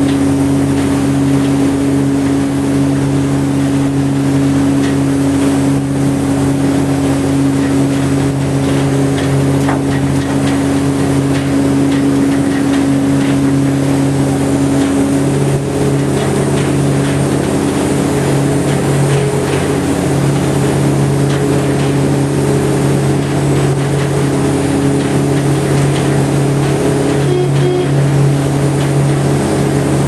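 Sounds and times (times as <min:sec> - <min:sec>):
boat engine humming: 0:00.0 - 0:30.0
water rushing along hull: 0:00.0 - 0:30.0.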